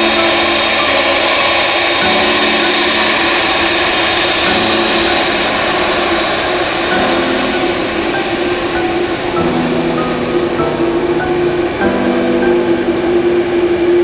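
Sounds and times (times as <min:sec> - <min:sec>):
jet airliner engines roaring: 0:00.0 - 0:14.0
slow background music chords: 0:00.0 - 0:14.0.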